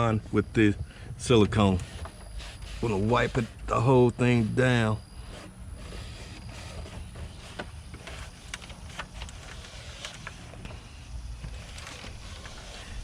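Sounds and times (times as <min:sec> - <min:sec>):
rag scrubbing dashboard: 0:01.2 - 0:13.0.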